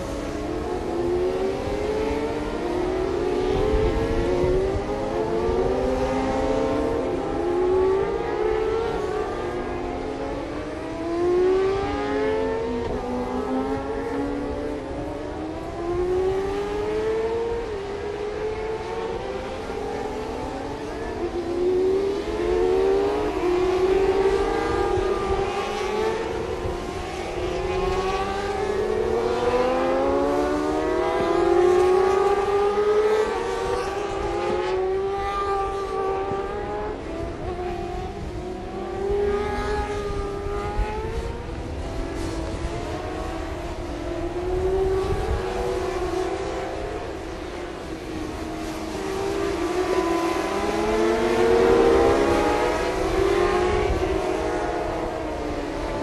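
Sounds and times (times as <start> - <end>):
racing motorcycles accelerating: 0.0 - 56.0.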